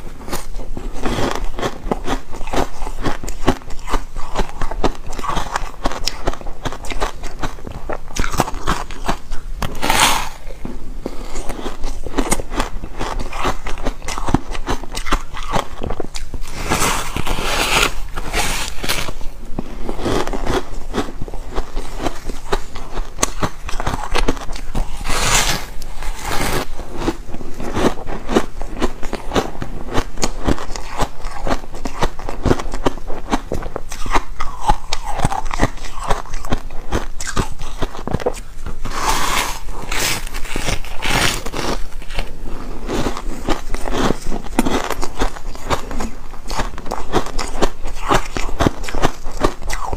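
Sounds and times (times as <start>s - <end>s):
chewing crunchy ice: 0.0s - 49.9s.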